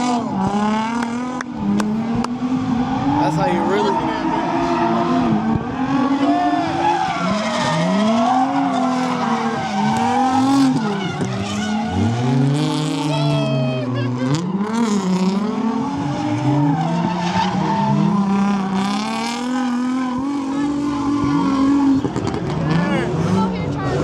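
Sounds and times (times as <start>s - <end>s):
car engine revving: 0.0s - 24.0s
tires squealing: 0.0s - 24.0s.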